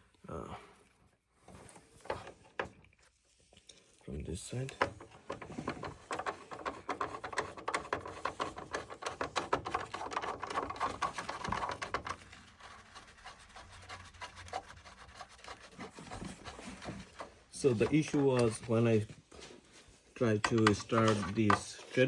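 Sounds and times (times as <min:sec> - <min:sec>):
wire connectors clicking and scraping: 0:01.5 - 0:22.0.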